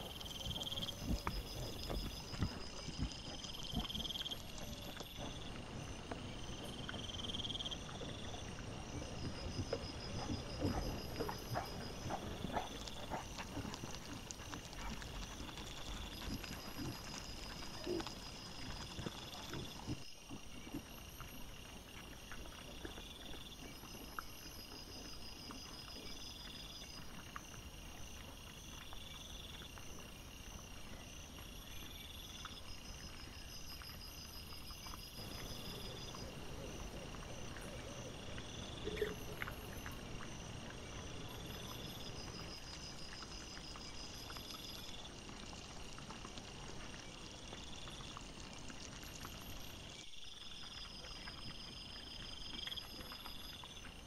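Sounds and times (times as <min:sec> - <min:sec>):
night insects chirping: 0:00.0 - 0:54.0
wild boar foraging rustles: 0:00.0 - 0:54.0.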